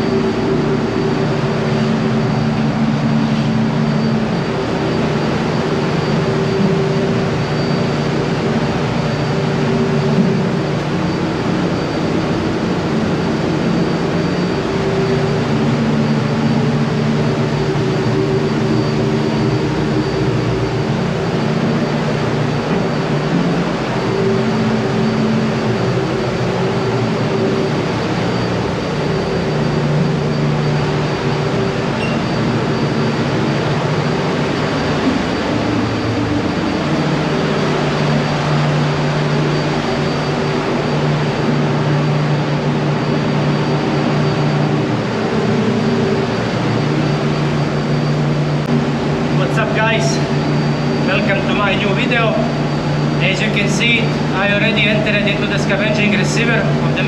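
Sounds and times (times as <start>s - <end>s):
engine room machinery drone: 0.0s - 57.0s.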